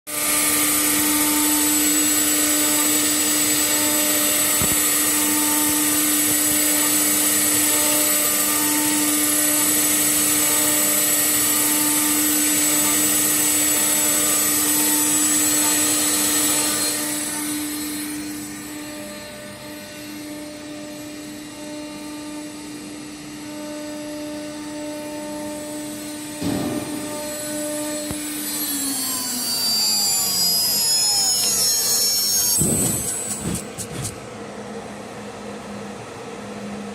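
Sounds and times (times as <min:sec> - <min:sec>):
cutter engraving noise: 0:00.1 - 0:34.2
cnc router spindle whine: 0:00.1 - 0:36.9.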